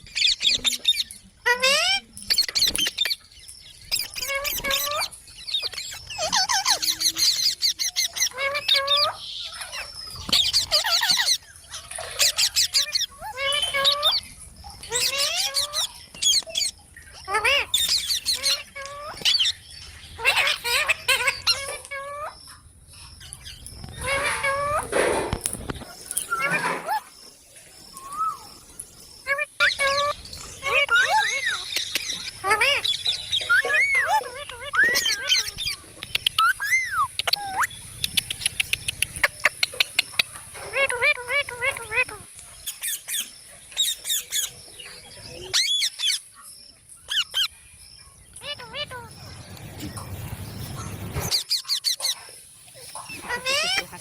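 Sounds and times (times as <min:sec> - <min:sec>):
parrots chirping and squawking: 0:00.0 - 0:27.2, 0:27.8 - 0:54.0.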